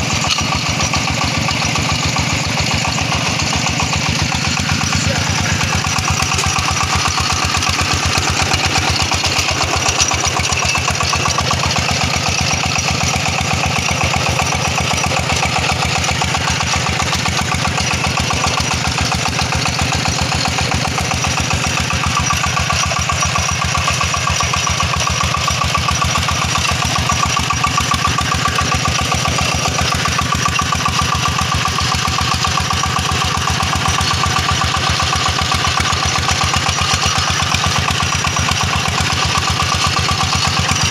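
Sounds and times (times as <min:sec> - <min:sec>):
diesel tractor engine chugging: 0:00.0 - 0:40.9.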